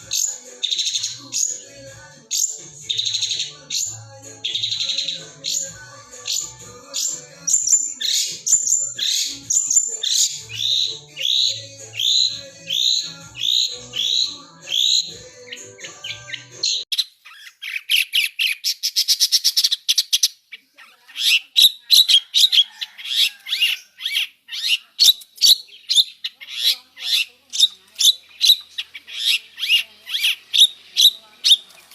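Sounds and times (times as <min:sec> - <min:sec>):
bird singing: 0:00.0 - 0:31.9.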